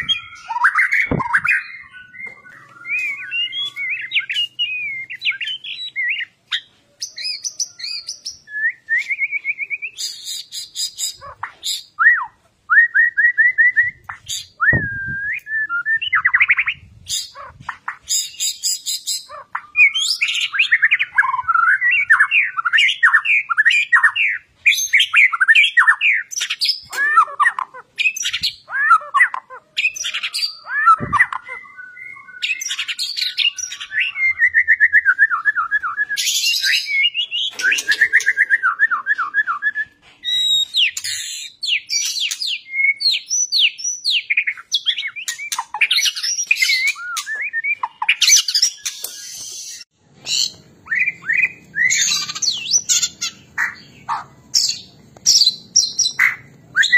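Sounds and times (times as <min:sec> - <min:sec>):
songbird singing loud whistles: 0:00.0 - 0:27.2, 0:28.0 - 0:53.8, 0:54.6 - 0:56.9.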